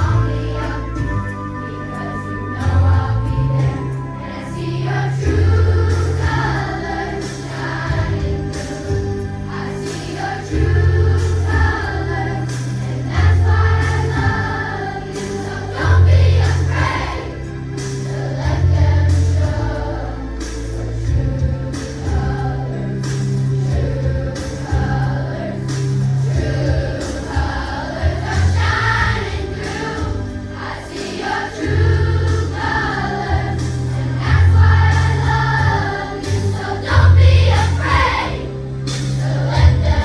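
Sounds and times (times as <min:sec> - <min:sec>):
children's choir singing: 0:00.0 - 0:40.0
music with pulsing bass: 0:00.0 - 0:40.0.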